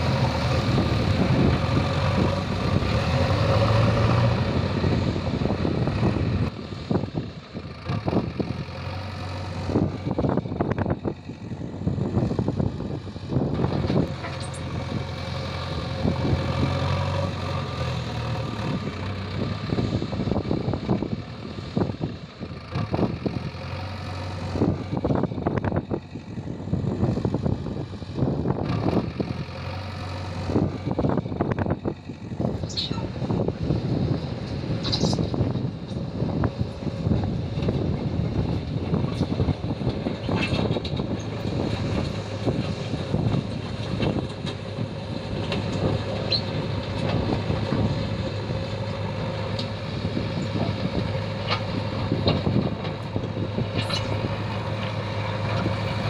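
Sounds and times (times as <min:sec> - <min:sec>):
diesel engine working: 0:00.0 - 0:56.0.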